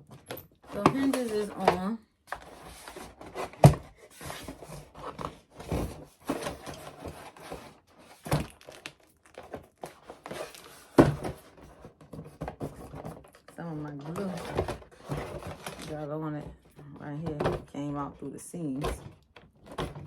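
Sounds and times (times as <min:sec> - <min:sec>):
box rustling and handling: 0:00.0 - 0:20.0.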